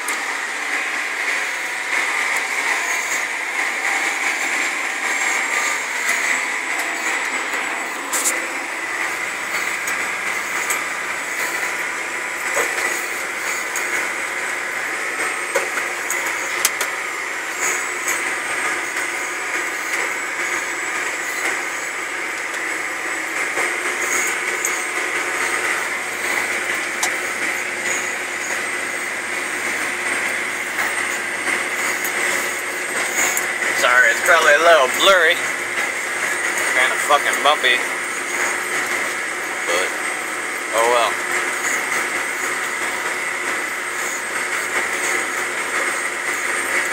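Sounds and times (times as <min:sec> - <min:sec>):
tractor engine drone: 0:00.0 - 0:46.9.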